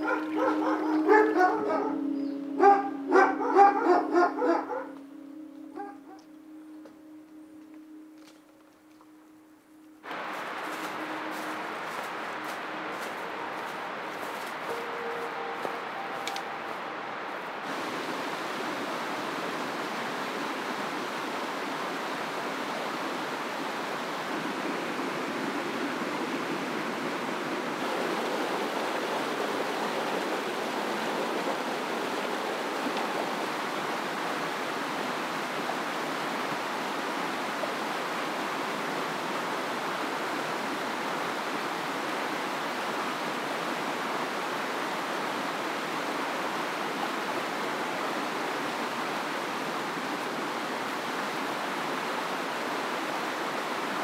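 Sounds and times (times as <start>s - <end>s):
stream rushing over boulders: 0.0s - 54.0s.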